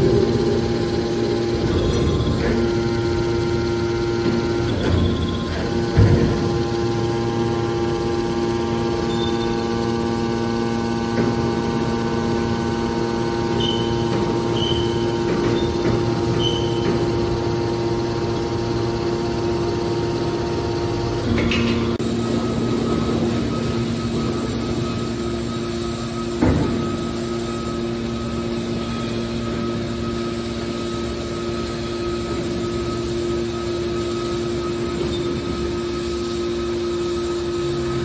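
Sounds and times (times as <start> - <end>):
hydraulic motor and pump hum: 0.0 - 38.0.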